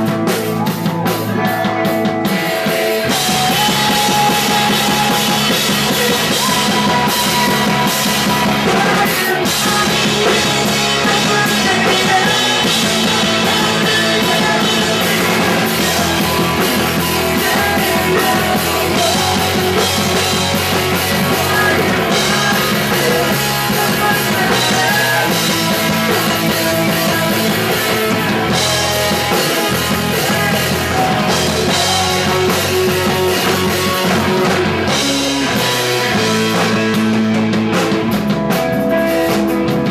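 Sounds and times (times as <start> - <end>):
punk rock music: 0.0 - 39.9.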